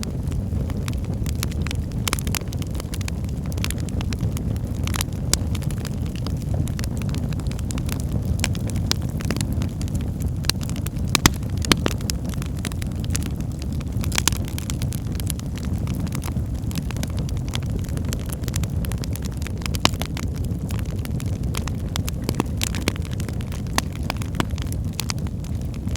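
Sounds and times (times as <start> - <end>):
fire crackling and popping: 0.0 - 25.9
wood fire roaring: 0.0 - 25.9.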